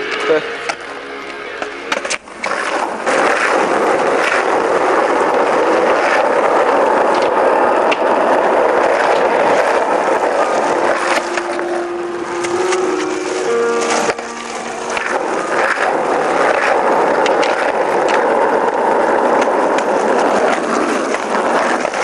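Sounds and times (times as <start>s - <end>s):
skateboard wheels rolling on asphalt: 0.0s - 22.0s
skateboard clacks: 1.6s - 22.0s.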